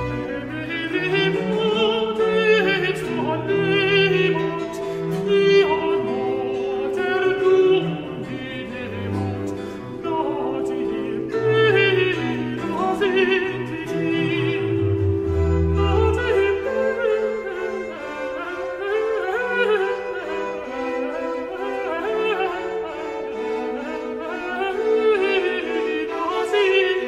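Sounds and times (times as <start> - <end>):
operatic singing: 0.0 - 27.0
orchestra playing held notes: 0.0 - 27.0.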